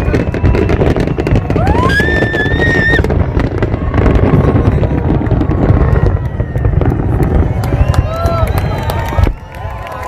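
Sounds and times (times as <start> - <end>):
firework whistle: 0.0 - 9.7
fireworks bursts rumbling: 0.0 - 10.0
fireworks crackling: 0.0 - 10.0.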